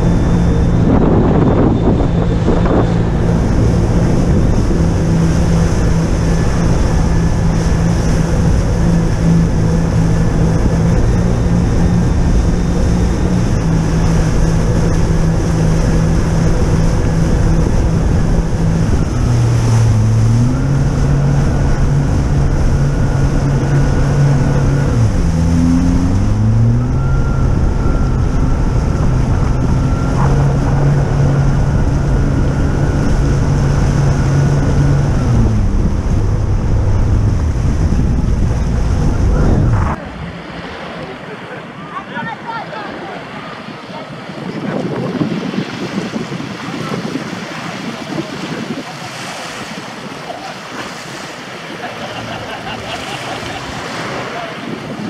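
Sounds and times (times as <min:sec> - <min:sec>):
jet ski engine running: 0:00.0 - 0:55.0
rushing water: 0:00.0 - 0:55.0
wind buffeting microphone: 0:00.0 - 0:55.0.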